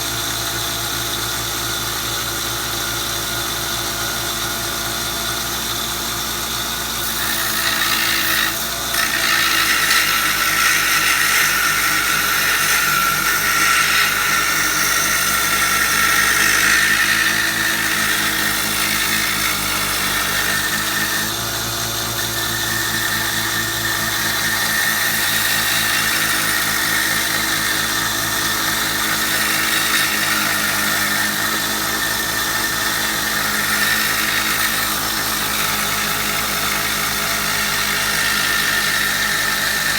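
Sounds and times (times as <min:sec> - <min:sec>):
belt sander grinding blade: 0:00.0 - 0:39.9.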